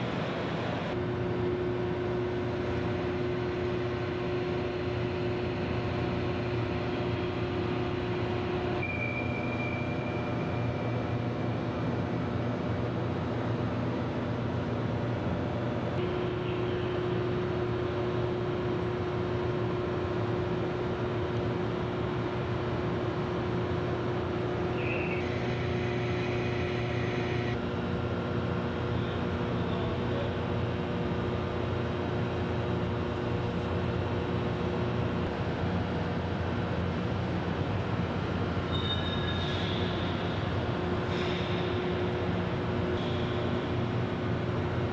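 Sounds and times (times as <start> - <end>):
crane mechanical hum: 0.0 - 44.9.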